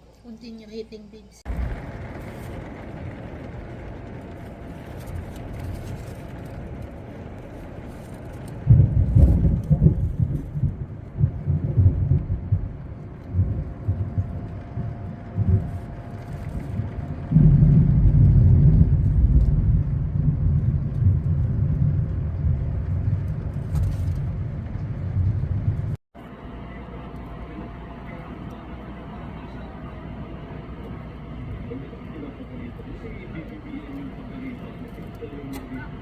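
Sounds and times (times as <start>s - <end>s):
thunder rumbling: 1.5s - 36.0s.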